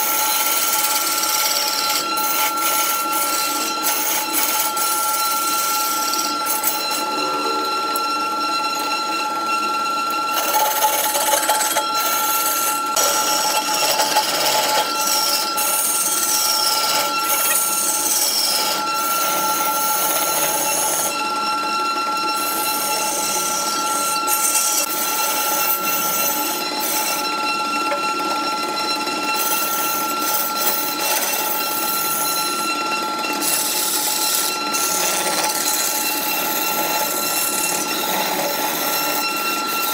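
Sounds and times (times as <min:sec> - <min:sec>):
tool scraping wood with squeals: 0:00.0 - 0:39.9
wood lathe whining: 0:00.0 - 0:39.9.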